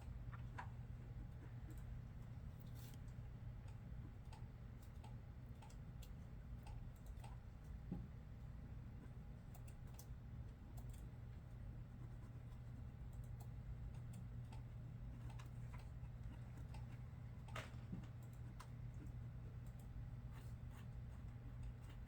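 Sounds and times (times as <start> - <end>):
low office hum: 0.0 - 22.0.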